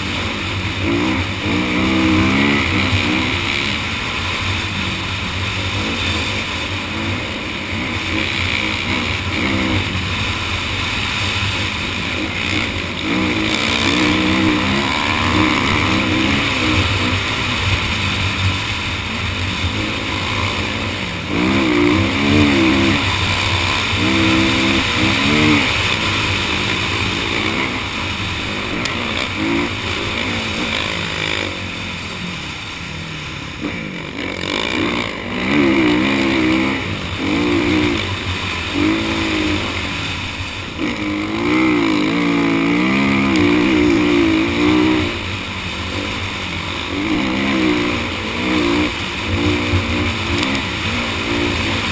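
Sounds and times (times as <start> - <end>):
dirt bike engine revving: 0.0 - 51.9
steady rushing noise: 0.0 - 51.9.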